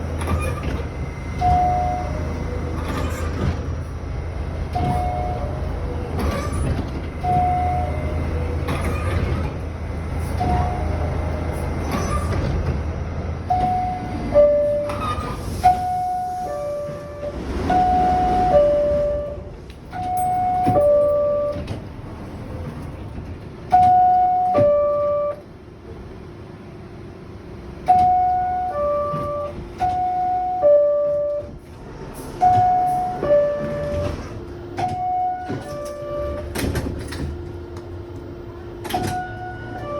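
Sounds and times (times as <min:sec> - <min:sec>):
subway car door chime: 0:00.0 - 0:12.8, 0:13.4 - 0:25.7, 0:27.8 - 0:39.9.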